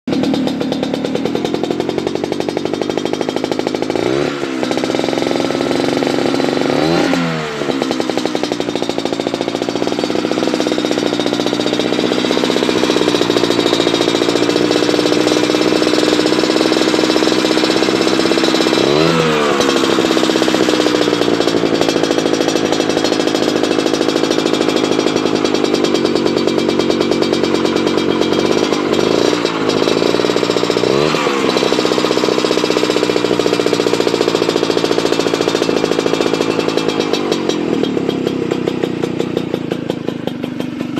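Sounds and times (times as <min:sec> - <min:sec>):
scooter engine revving: 0:00.0 - 0:40.9.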